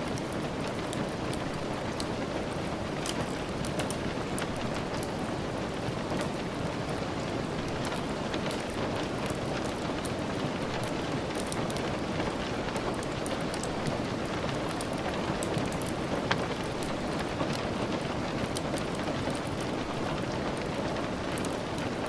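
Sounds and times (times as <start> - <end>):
steady rain falling: 0.0 - 22.0
wood fire crackling: 0.1 - 22.0.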